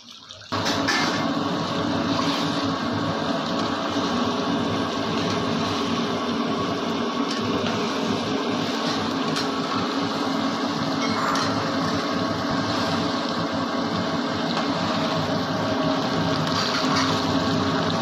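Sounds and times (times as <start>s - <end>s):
steady machine noise: 0.5s - 18.0s.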